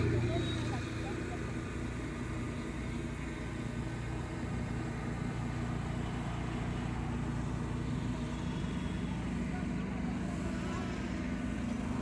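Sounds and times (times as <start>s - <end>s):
drone propeller hum: 0.0s - 12.0s
low outdoor rumble: 0.0s - 12.0s.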